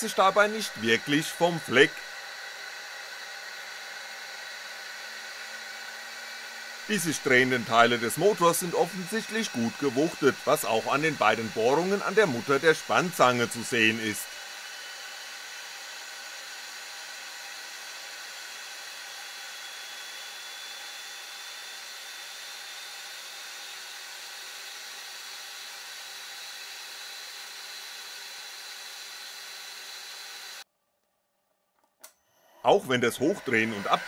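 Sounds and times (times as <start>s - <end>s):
milling spindle running: 0.0s - 30.6s, 32.6s - 34.0s.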